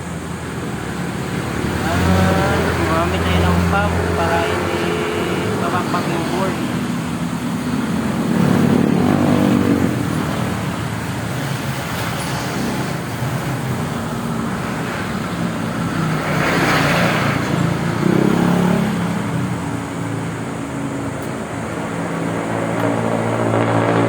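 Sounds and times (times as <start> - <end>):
vehicles passing by: 0.0 - 24.0.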